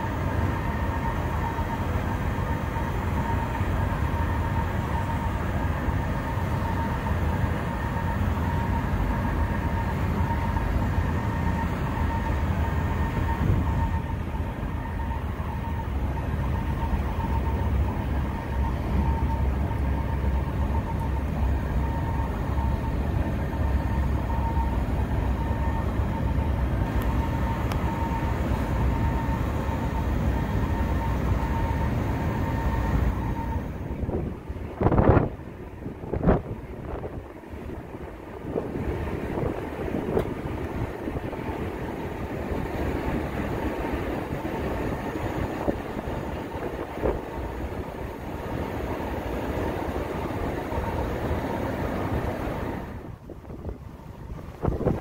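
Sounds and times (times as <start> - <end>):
ferry engines droning: 0.0 - 55.0
high whine: 0.0 - 55.0.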